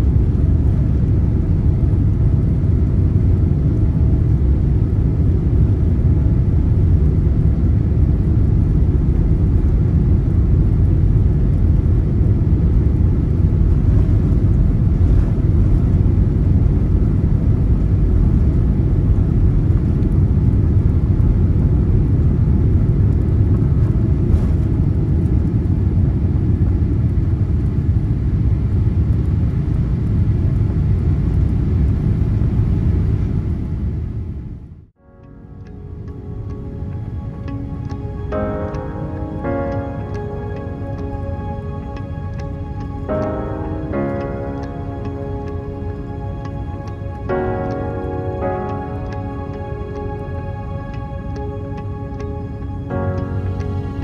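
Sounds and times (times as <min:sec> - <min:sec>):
faint engine tones: 0:00.0 - 0:27.0, 0:35.0 - 0:54.0
deep rumble of jet engines: 0:00.0 - 0:54.0.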